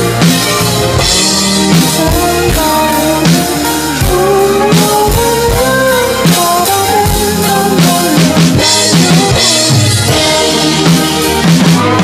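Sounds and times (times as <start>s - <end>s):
electronic drum kit beat: 0.0s - 12.0s
rock band backing track: 0.0s - 12.0s.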